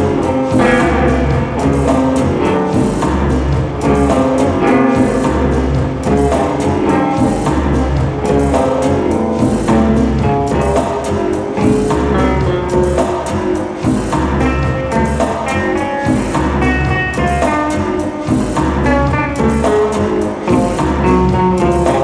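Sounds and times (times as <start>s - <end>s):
electric guitar: 0.0s - 22.0s.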